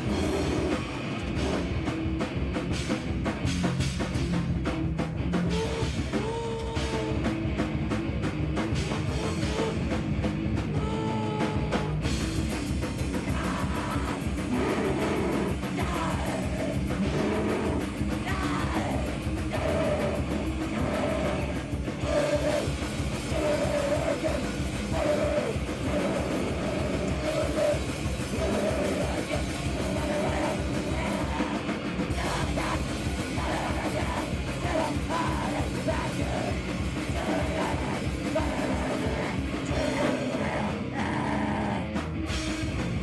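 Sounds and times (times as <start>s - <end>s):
heavy rock band playing: 0.0s - 43.0s.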